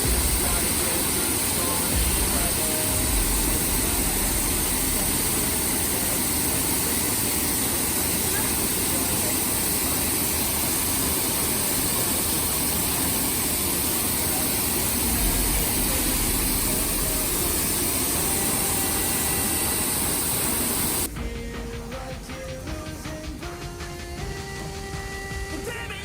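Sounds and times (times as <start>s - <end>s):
loud rushing hiss: 0.0s - 26.0s.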